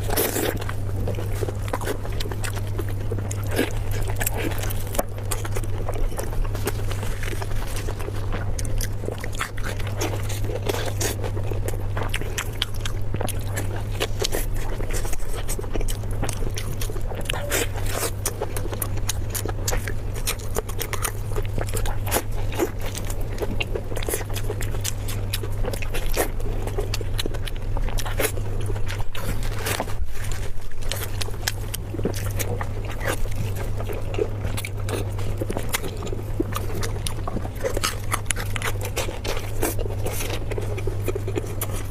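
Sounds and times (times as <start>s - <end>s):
person chewing food: 0.0s - 41.9s
steady low hum: 0.0s - 41.9s.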